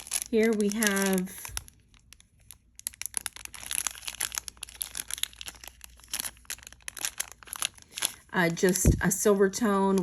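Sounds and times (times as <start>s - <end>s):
plastic packet crinkling: 0.0s - 10.0s.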